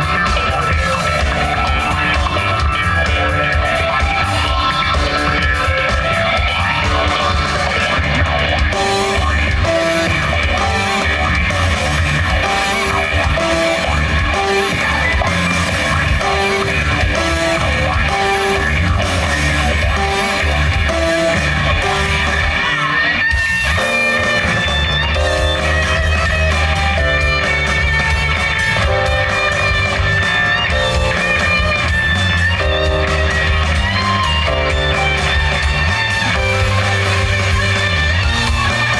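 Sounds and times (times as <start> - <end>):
melodic guitar figure: 0.0 - 38.9
rock band playing live: 0.0 - 38.9.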